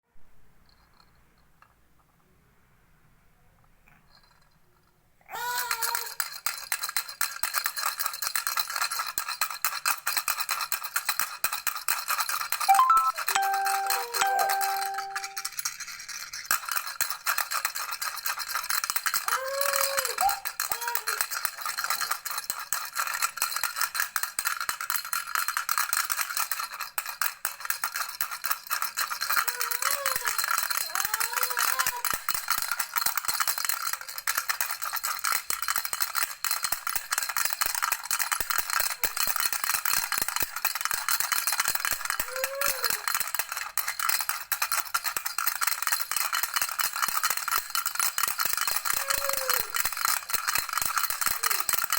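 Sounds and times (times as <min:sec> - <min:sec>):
toy rattle shaken: 0:04.0 - 0:51.9.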